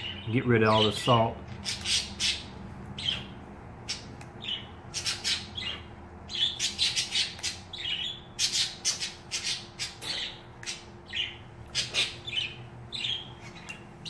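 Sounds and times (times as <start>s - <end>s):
bird squawking: 0.0s - 3.3s, 3.9s - 13.7s.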